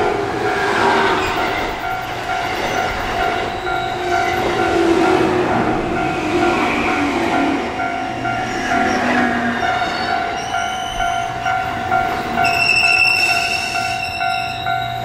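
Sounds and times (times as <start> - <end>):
rail noise: 0.0 - 15.0
high squealing tones: 1.1 - 11.4, 12.3 - 15.0.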